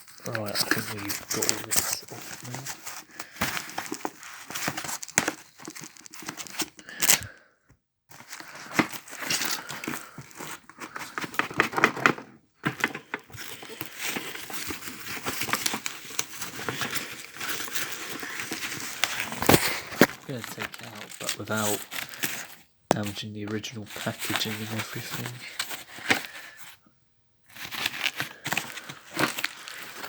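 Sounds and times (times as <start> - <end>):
packaging crinkling and tearing: 0.0 - 7.4, 8.1 - 26.6, 27.5 - 30.0.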